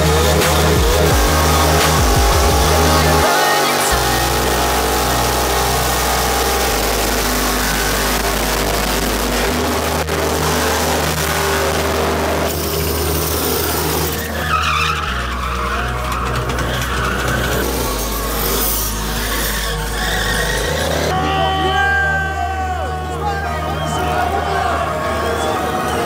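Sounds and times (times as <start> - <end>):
tyres skidding: 0.0 - 21.4, 22.8 - 26.0
loud car noise: 0.0 - 26.0
music with deep bass line: 0.0 - 26.0.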